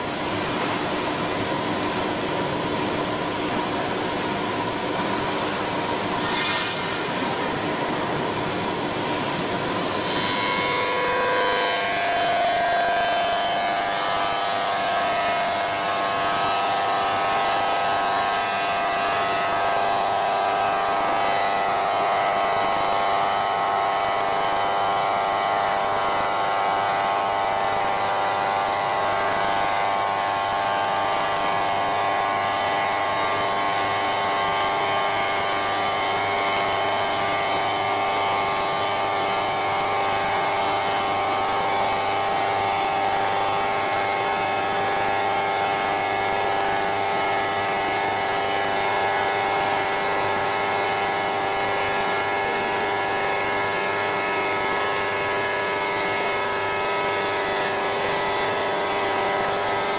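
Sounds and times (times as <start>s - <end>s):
stone router machining stone: 0.0s - 59.9s.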